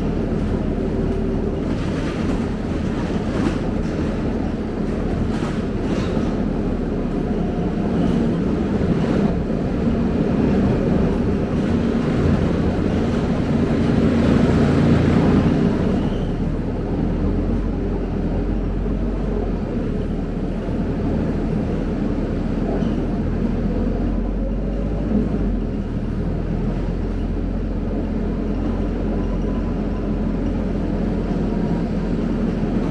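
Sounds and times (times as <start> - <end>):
bus diesel engine running: 0.0 - 32.9
road noise: 0.0 - 32.9.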